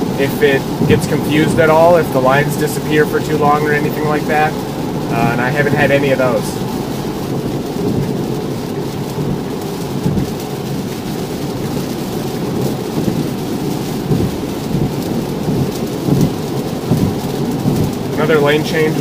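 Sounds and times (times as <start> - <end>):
heavy rain hitting car: 0.0 - 19.0
tyres rumbling on wet road: 0.0 - 19.0
windshield wipers sweeping: 0.0 - 19.0.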